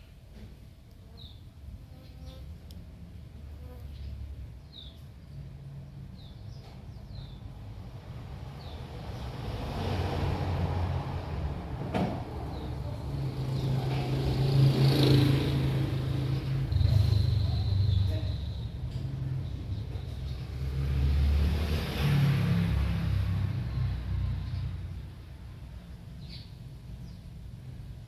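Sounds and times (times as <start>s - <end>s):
road noise: 0.0s - 28.0s
vehicle engine hum: 2.3s - 28.0s.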